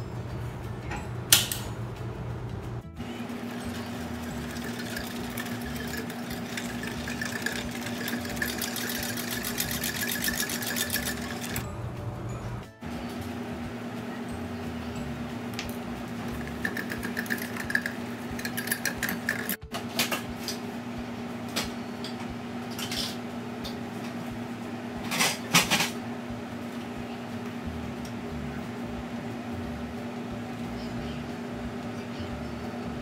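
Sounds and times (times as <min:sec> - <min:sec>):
low kitchen hum: 0:00.0 - 0:33.0.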